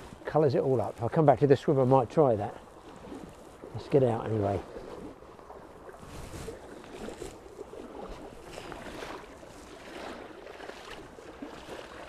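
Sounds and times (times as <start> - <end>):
stream current rushing: 0.0 - 12.0
water swishing around legs: 0.0 - 12.0.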